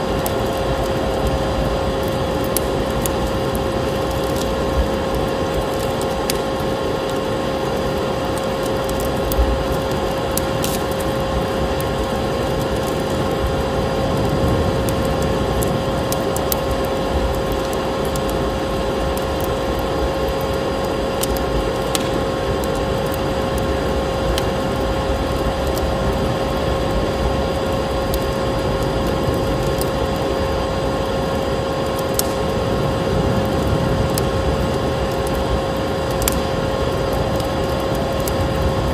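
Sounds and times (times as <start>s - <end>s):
wood fire popping: 0.0s - 38.9s.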